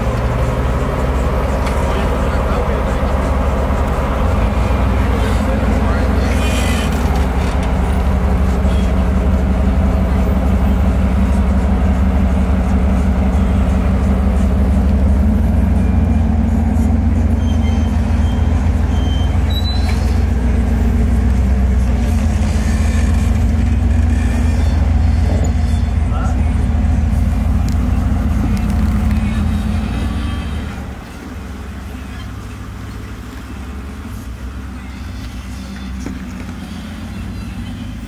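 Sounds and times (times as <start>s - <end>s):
off-road vehicle engine running: 0.0s - 38.0s.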